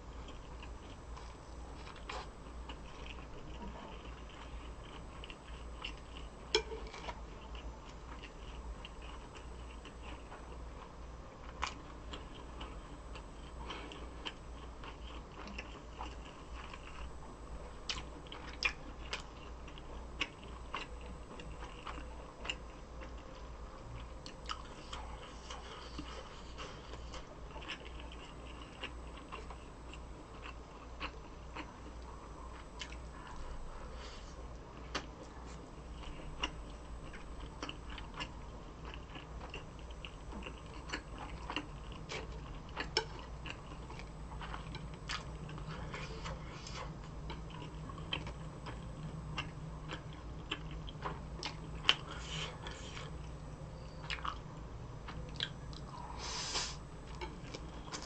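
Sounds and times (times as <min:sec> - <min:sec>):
chewing chewy food: 0:00.0 - 0:56.2, 0:56.8 - 0:58.0.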